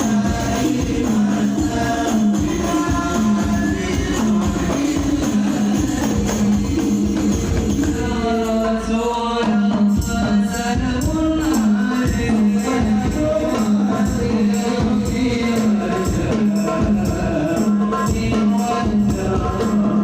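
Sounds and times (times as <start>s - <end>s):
frame drums beating: 0.0s - 20.0s
voices singing devotional melody: 0.0s - 20.0s.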